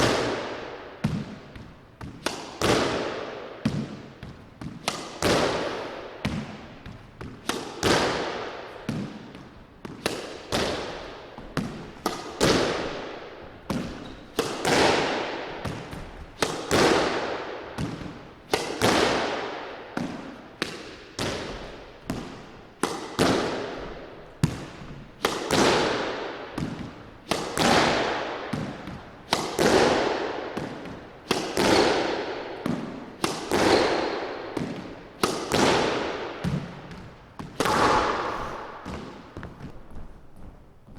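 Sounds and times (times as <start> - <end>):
squash ball hitting walls: 0.0 - 40.9.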